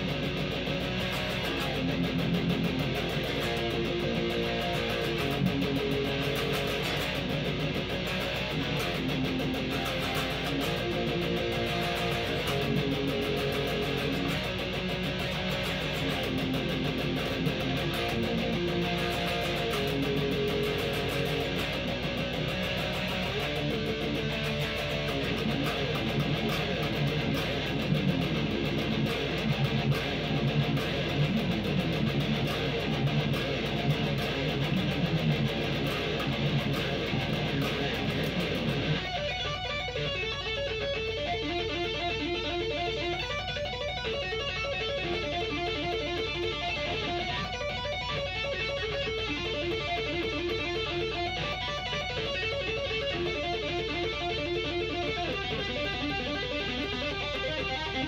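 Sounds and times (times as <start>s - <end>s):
electric guitar picked notes: 0.0s - 58.0s
electric guitar strummed chords: 0.0s - 58.0s.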